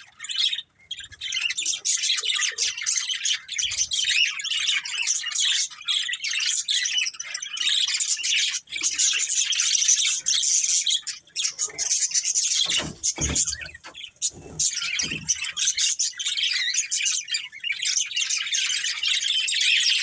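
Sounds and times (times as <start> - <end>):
budgerigars chirping: 0.2 - 20.0.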